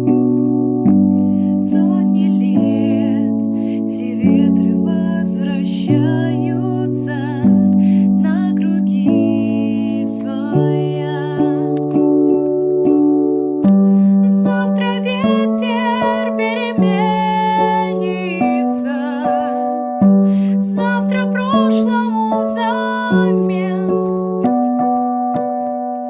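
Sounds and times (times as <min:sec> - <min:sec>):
keyboard chords: 0:00.0 - 0:26.0.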